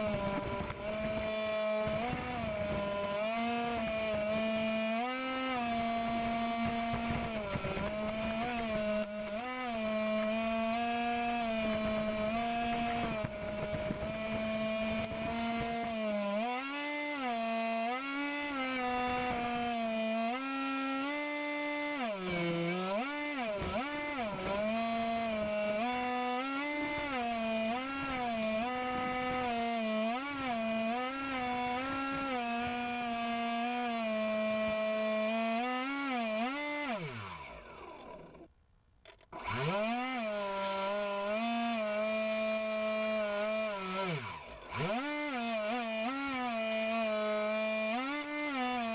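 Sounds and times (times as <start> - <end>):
model air boat motor and propeller: 0.0 - 19.6, 20.2 - 48.9.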